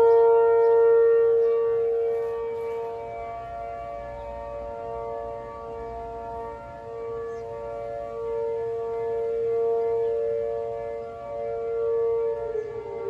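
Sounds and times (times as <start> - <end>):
rotating warning siren: 0.0 - 13.0.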